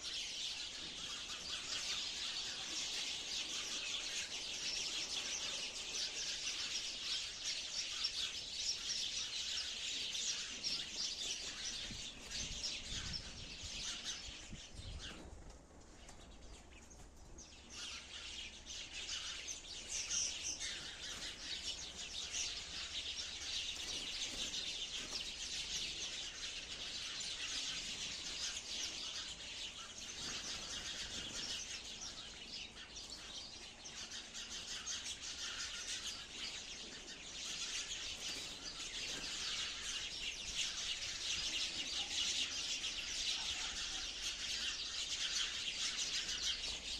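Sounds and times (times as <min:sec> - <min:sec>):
sparrows chirping: 0:00.0 - 0:46.9.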